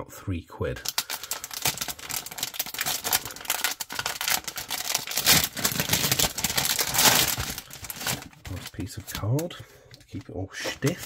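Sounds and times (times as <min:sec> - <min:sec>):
plastic pouch crinkling: 0:00.8 - 0:11.0.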